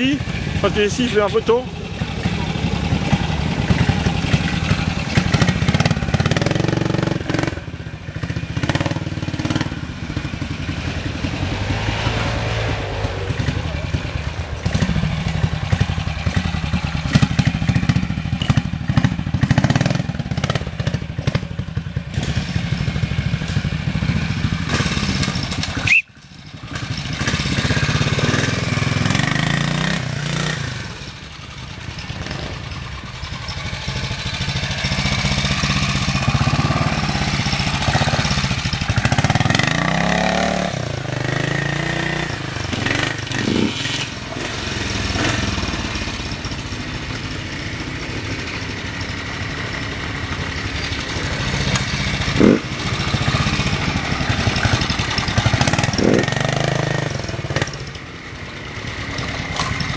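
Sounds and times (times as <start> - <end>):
motorcycle engines blipping: 0.0 - 59.9.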